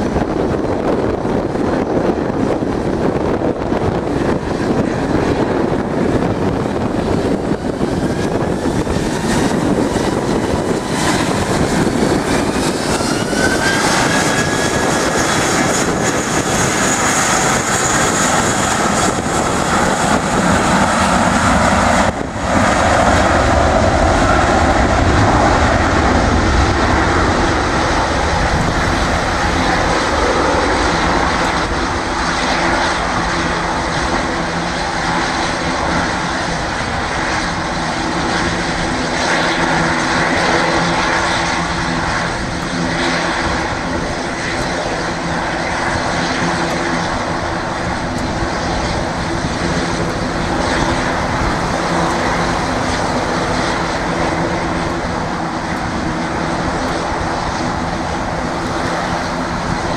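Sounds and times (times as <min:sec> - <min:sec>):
jet engines roaring at takeoff: 0:00.0 - 0:59.9.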